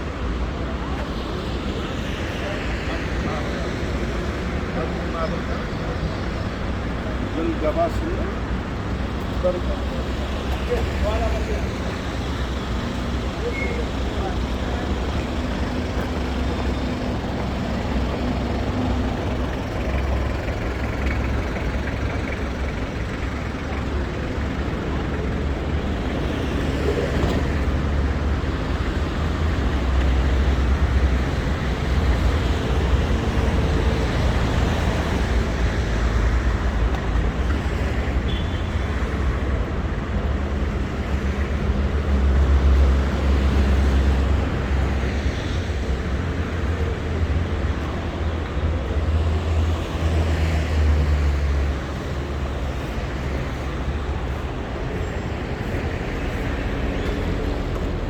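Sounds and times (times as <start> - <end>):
city street traffic rumble: 0.0 - 58.0.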